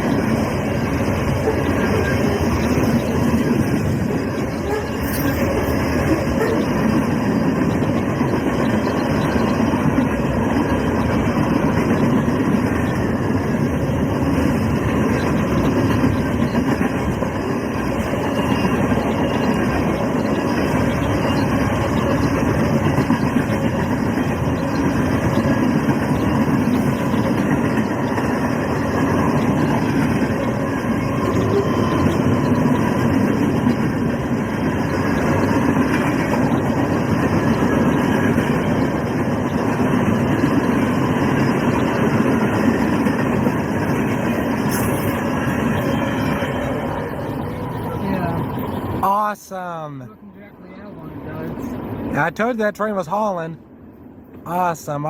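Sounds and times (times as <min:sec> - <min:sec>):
freight train wheels clattering: 0:00.0 - 0:49.0.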